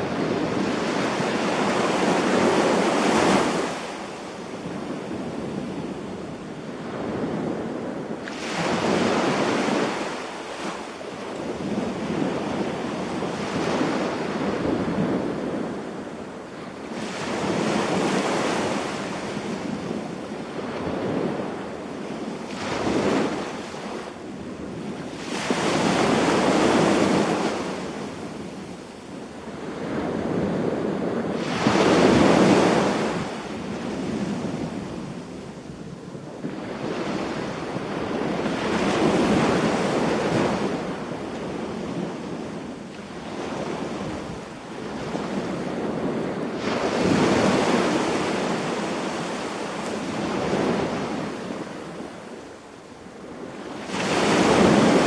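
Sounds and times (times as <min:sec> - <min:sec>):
waves washing on beach: 0:00.0 - 0:55.0.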